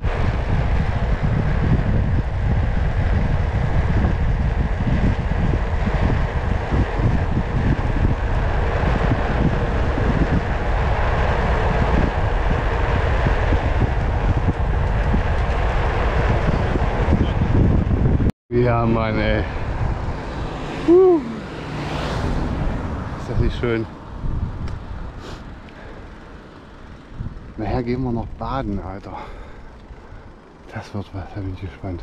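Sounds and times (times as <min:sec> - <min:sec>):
wind rushing on microphone: 0:00.0 - 0:32.0.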